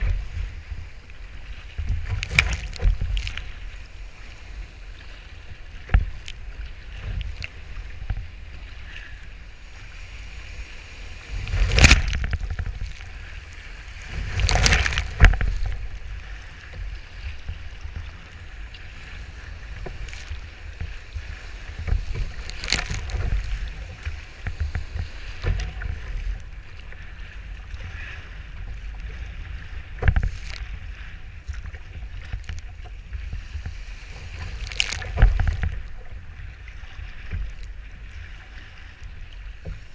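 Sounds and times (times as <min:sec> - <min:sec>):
wind buffeting microphone: 0:00.0 - 0:38.2
water splashing around hull: 0:00.0 - 0:39.9
waves breaking: 0:00.0 - 0:39.9.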